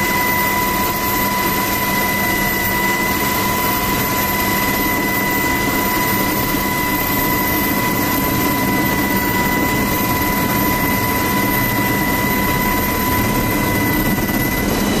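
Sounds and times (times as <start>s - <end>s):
helicopter engine and rotor noise: 0.0s - 15.0s
steady high whine: 0.0s - 15.0s.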